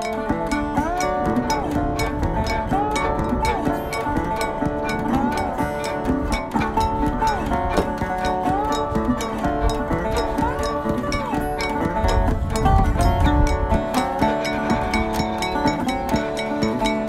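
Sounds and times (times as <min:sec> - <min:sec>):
plucked-string melody with sliding notes: 0:00.0 - 0:17.0
steady beat: 0:00.0 - 0:17.0.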